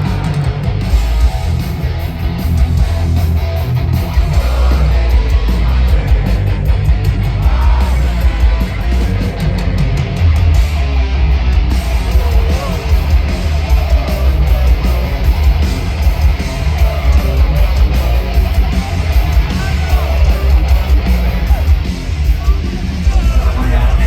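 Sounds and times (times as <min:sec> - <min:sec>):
heavy metal band playing: 0:00.0 - 0:24.0.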